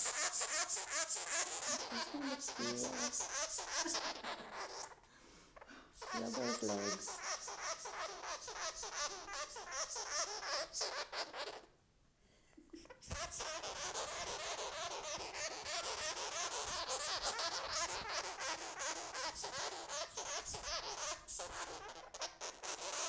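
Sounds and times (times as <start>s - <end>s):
sugar glider chattering: 0.0s - 5.0s, 6.0s - 11.7s, 12.9s - 23.0s.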